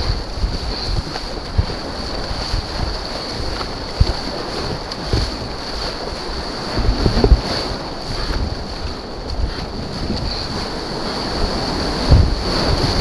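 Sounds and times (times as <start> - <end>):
water splashes: 0.0 - 13.0
whitewater rushing: 0.0 - 13.0
wind buffeting microphone: 0.0 - 13.0.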